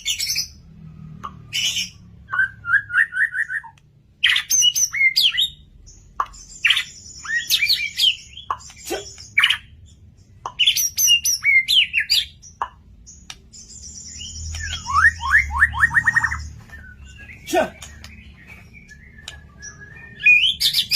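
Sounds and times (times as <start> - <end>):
songbird singing whistled phrases: 1.6 - 5.6, 6.3 - 9.7, 10.5 - 12.7, 13.6 - 20.9.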